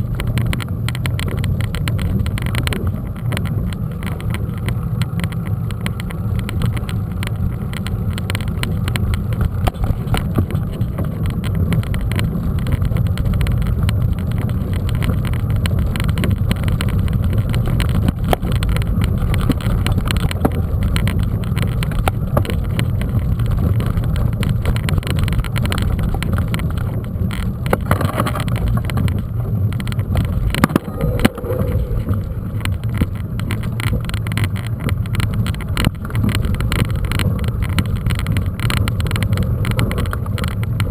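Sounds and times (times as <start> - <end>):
bike knocks and rattles: 0.0 - 40.9
tyre noise on dirt trail: 0.0 - 40.9
wind rumbling on microphone: 0.0 - 40.9.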